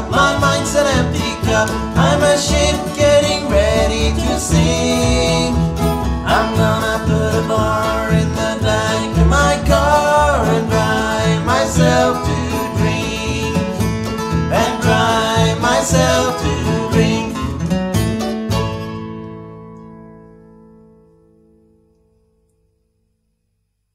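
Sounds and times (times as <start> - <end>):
acoustic bluegrass band playing: 0.0 - 20.1.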